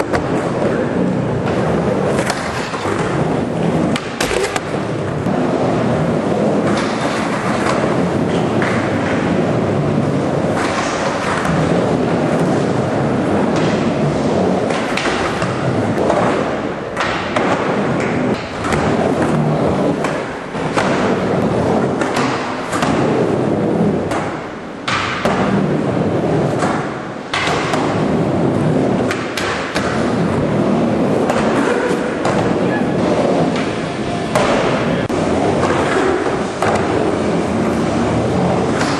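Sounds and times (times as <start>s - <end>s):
skateboard wheels rolling on concrete: 0.0s - 38.9s.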